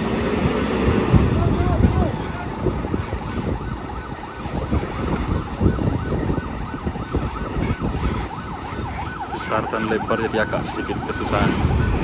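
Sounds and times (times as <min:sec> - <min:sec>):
heavy truck engines rumbling: 0:00.0 - 0:12.0
siren yelping: 0:01.3 - 0:12.0.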